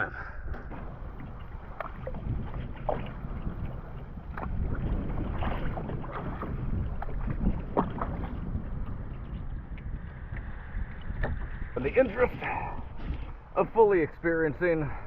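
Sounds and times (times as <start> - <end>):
water splashing against hull: 0.0 - 15.0
wind on microphone: 0.0 - 15.0.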